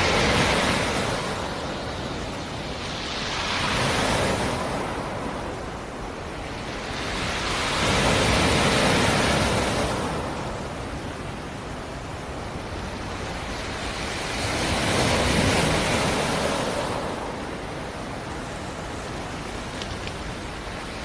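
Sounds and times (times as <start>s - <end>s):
waves breaking on rocky shore: 0.0s - 21.0s.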